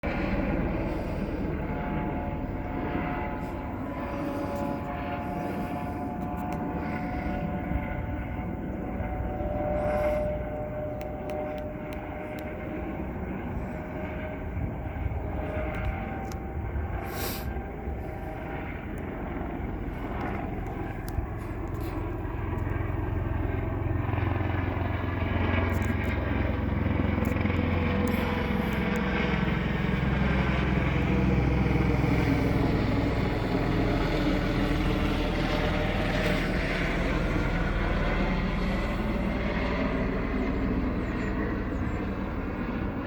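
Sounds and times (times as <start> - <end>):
helicopter flying: 0.0 - 43.0.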